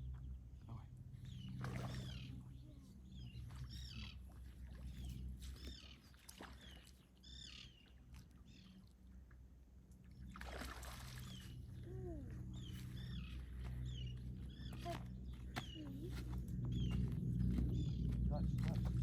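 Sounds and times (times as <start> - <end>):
faint low rumble: 0.0 - 6.0, 7.2 - 19.0
small birds chirping: 0.0 - 8.8, 11.3 - 19.0.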